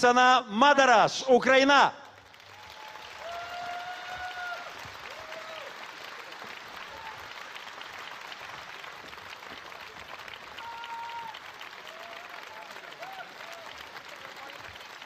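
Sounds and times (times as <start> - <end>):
audience applauding: 2.0 - 15.0.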